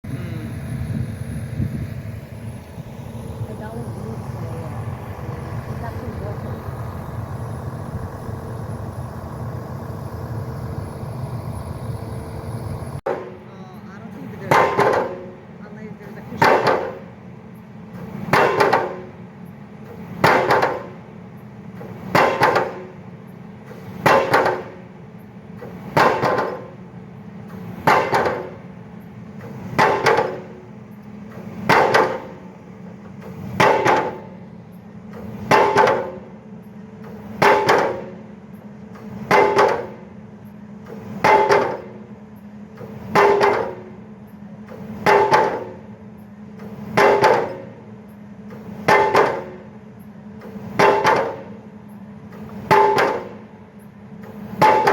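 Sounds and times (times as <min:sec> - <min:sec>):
engine humming: 0:00.0 - 0:54.9
pile driver metallic blows: 0:01.9 - 0:54.9.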